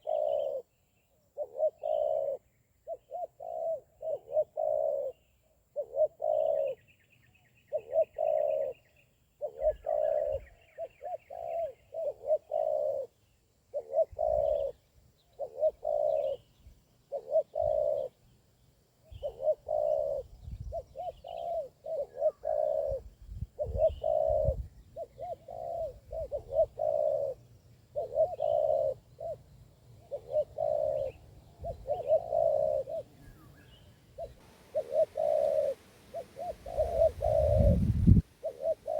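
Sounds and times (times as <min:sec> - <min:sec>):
doves cooing: 0:00.0 - 0:00.7, 0:01.4 - 0:06.9, 0:07.7 - 0:18.2, 0:19.1 - 0:38.9
faint small bird chirps: 0:00.0 - 0:38.9.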